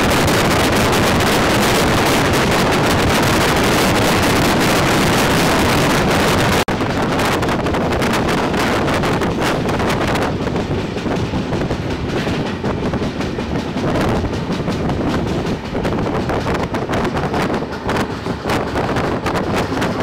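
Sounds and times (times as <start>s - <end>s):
train running at speed: 0.0s - 20.0s
wind rushing on microphone: 0.0s - 20.0s.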